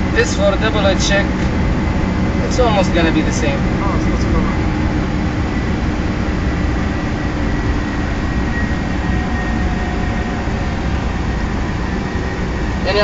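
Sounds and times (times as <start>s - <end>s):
high engine whine: 0.0s - 13.0s
jet engines rumbling: 0.0s - 13.0s.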